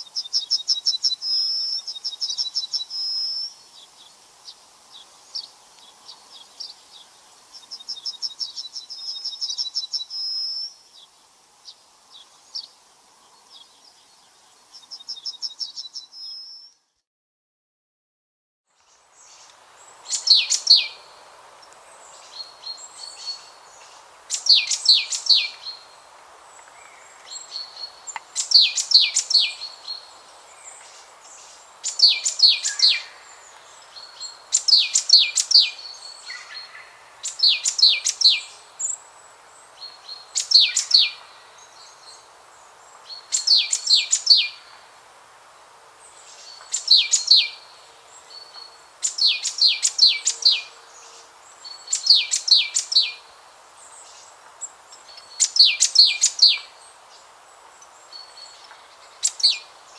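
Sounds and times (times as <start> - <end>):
background hiss: 0.0 - 16.9, 18.7 - 59.9.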